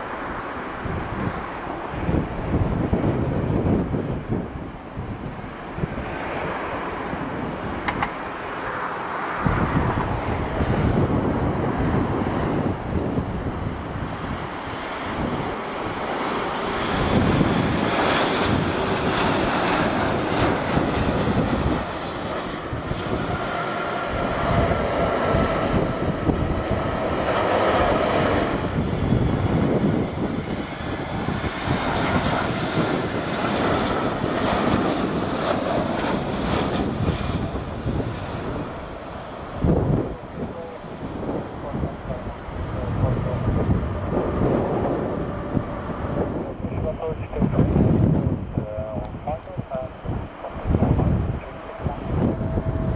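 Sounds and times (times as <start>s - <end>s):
jet airliner engines: 0.0s - 52.9s
wind on microphone: 0.0s - 52.9s.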